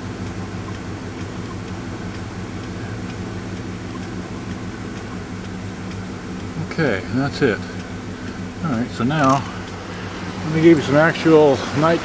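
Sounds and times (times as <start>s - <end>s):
faint regular ticking: 0.0s - 12.0s
machine hum: 0.0s - 12.0s.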